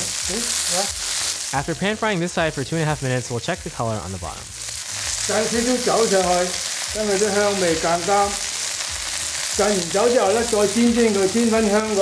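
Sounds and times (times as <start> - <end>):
man talking: 0.0 - 4.5, 5.3 - 8.4, 9.6 - 12.0
fish sizzling in oil: 0.0 - 12.0.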